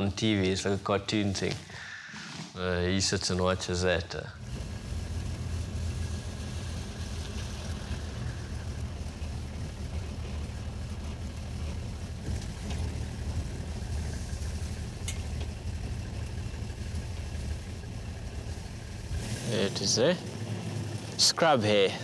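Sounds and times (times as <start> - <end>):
vehicle engine droning: 4.0 - 22.0.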